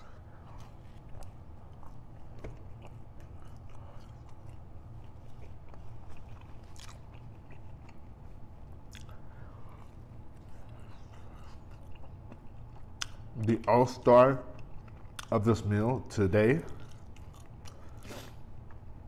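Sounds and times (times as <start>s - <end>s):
close-miked chewing: 0.0s - 15.7s, 16.6s - 19.0s.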